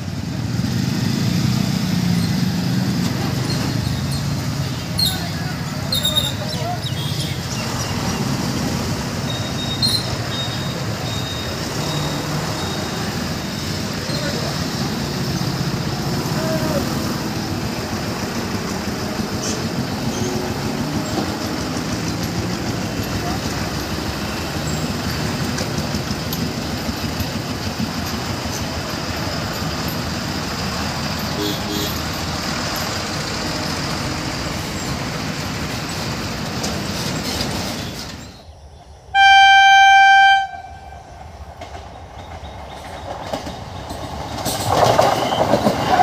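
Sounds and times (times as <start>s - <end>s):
motorcycle and truck engines: 0.0s - 46.0s
road traffic noise: 0.0s - 46.0s.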